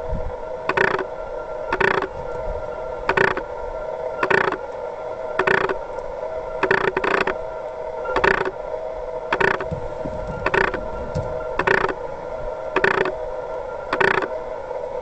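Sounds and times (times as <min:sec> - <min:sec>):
steady mechanical whine: 0:00.0 - 0:15.0.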